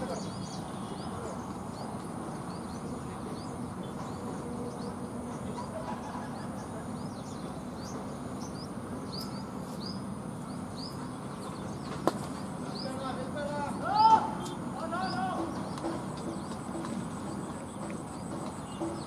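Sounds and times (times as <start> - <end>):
bird chirping: 0.0 - 19.0
outdoor background noise: 0.0 - 19.0.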